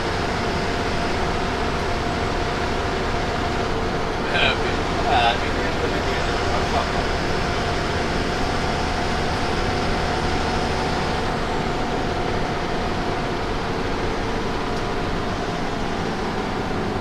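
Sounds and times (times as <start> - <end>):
faint steady whine: 0.0 - 16.1
bus engine hum: 0.0 - 17.0
road noise: 0.0 - 17.0.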